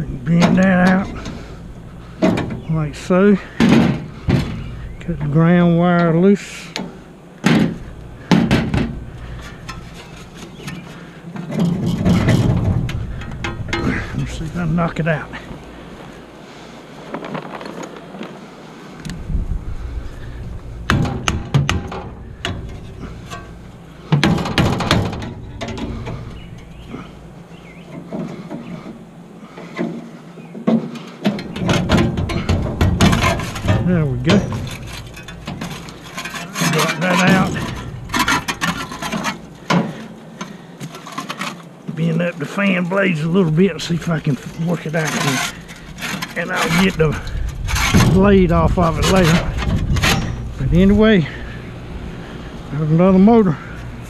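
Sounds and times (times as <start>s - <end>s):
metal knocking and clanking: 0.0s - 6.1s, 6.7s - 15.6s, 19.8s - 42.1s, 43.4s - 51.6s.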